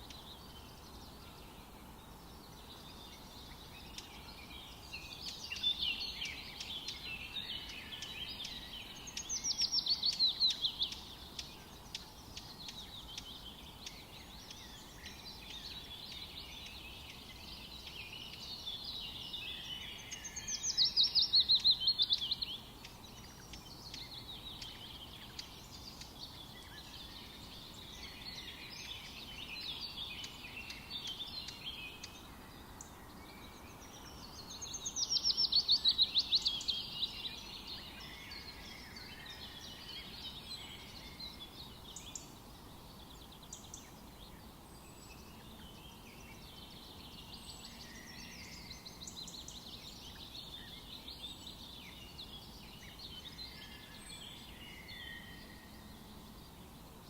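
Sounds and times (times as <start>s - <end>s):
forest birds singing: 0.0s - 57.0s
steady background hiss: 0.0s - 57.0s.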